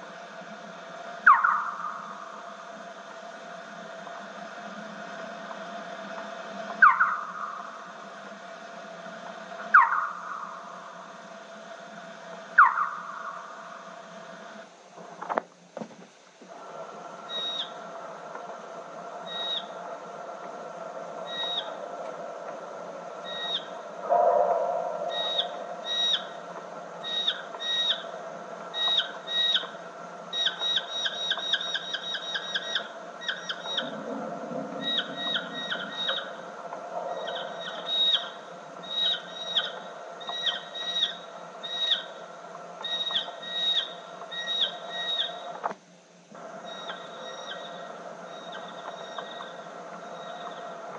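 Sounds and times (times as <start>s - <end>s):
tape hiss: 0.0s - 50.9s.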